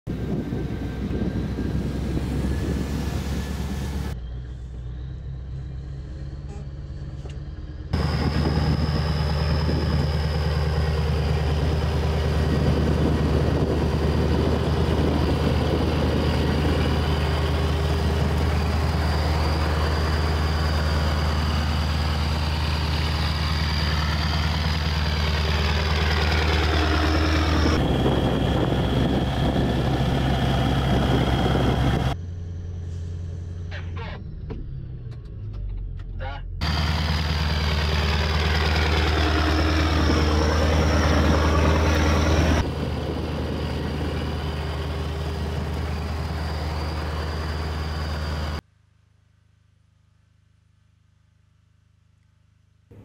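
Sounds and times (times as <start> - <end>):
diesel engine droning: 0.1 - 48.6.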